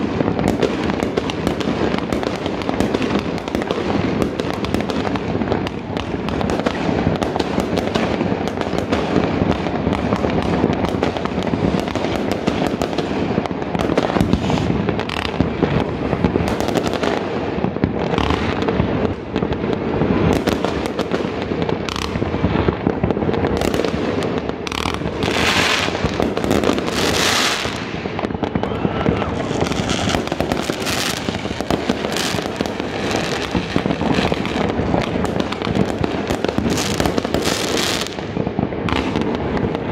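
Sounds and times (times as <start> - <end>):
fireworks bangs pops and crackles: 0.0 - 39.9.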